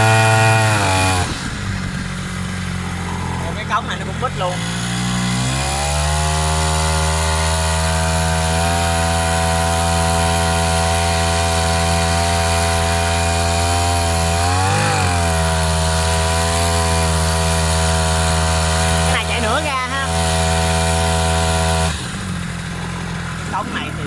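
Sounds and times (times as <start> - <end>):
two-stroke boat engine running: 0.0 - 24.0.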